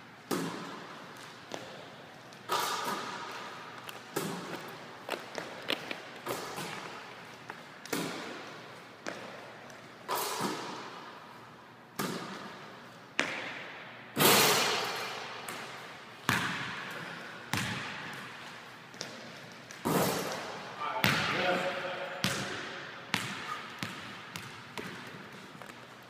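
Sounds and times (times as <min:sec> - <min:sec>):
basketball thuds echoing in gym: 0:00.3 - 0:07.1, 0:07.8 - 0:09.5, 0:10.1 - 0:11.2, 0:11.9 - 0:25.4.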